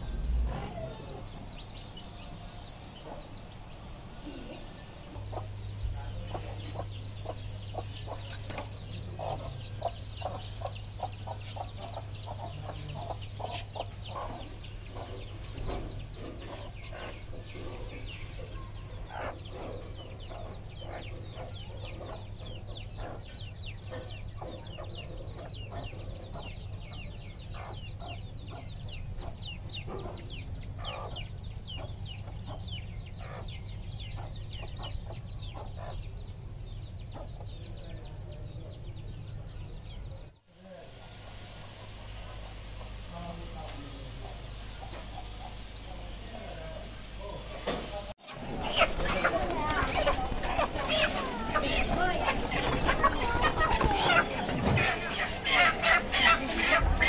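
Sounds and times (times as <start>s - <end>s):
hens clucking: 0.0s - 39.9s, 40.6s - 57.0s
chicks peeping: 0.0s - 57.0s
steady low hum: 0.0s - 57.0s.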